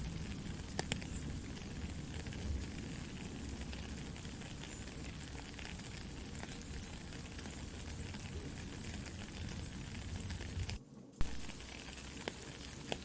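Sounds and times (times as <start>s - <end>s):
campfire crackling: 0.0s - 13.0s
soft steady rain: 0.0s - 13.0s.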